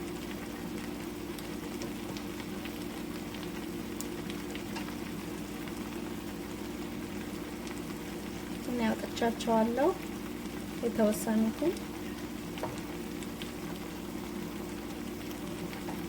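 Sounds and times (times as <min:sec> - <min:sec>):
pot sizzling on stove: 0:00.0 - 0:16.0.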